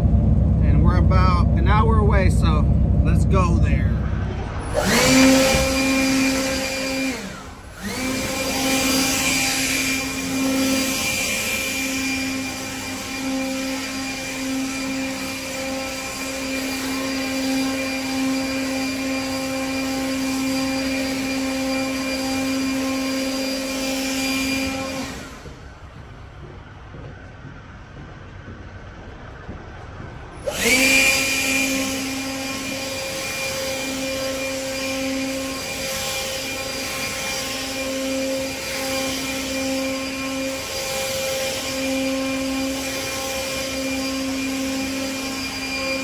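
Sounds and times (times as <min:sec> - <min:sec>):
small electric motor whine: 0:04.1 - 0:26.0, 0:30.4 - 0:46.0.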